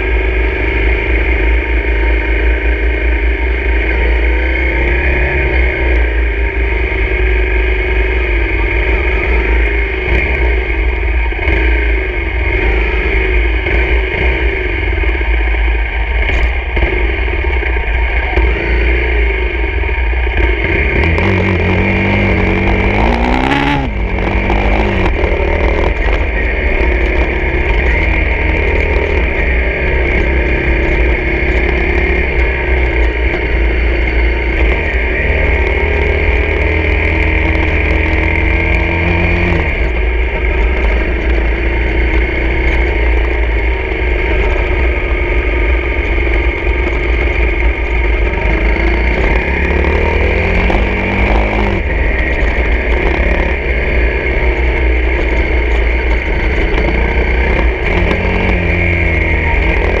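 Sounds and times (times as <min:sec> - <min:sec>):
dirt bike engine revving: 0:00.0 - 1:00.0
low rumble: 0:00.0 - 1:00.0.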